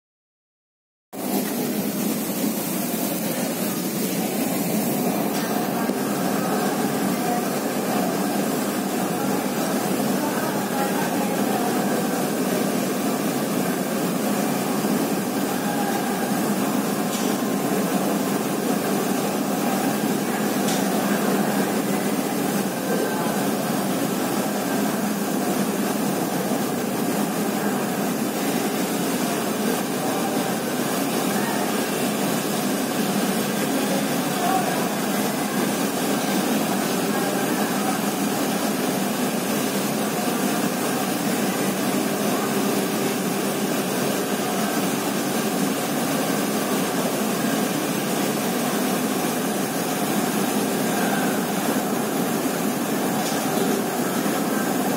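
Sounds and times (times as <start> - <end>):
heavy rain falling: 1.2 - 54.9.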